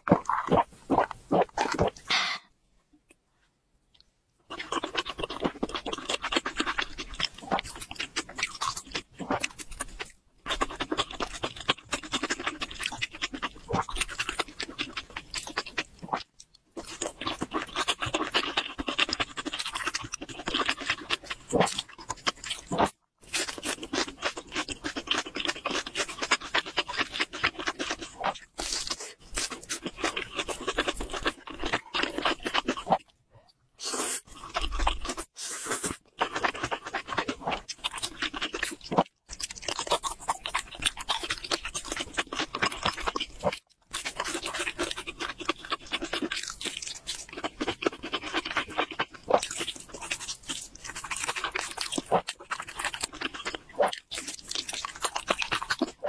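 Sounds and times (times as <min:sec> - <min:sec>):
chewing and wet mouth sounds: 0:00.0 - 0:02.4, 0:03.9 - 0:56.0.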